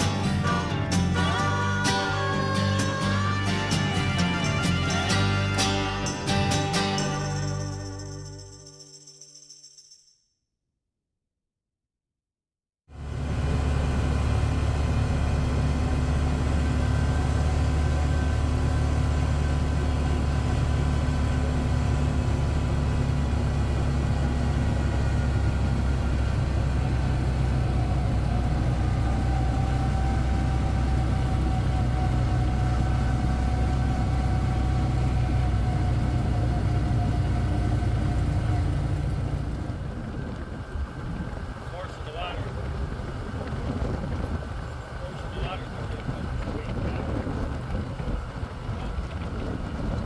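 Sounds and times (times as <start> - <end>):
atv engine droning: 0.0 - 8.5, 12.9 - 50.0.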